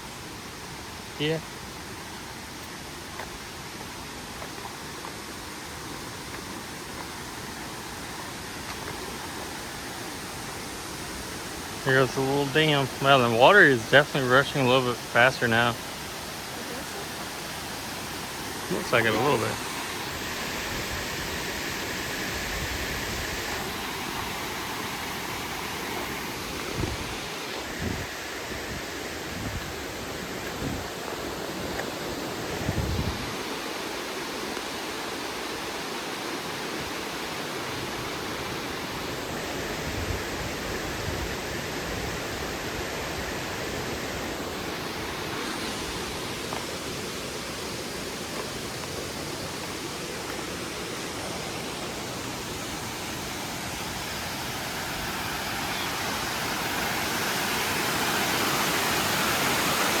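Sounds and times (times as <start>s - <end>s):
water rushing over a dam: 0.0s - 60.0s.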